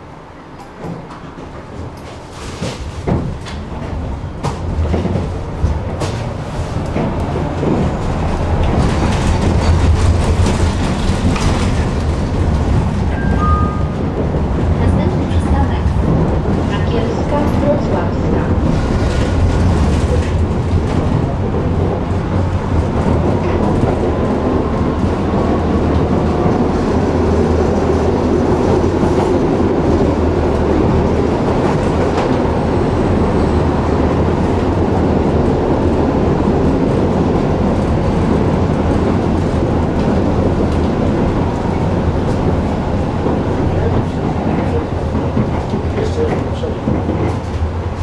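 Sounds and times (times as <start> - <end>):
tram rumbling on rails: 0.0 - 48.0.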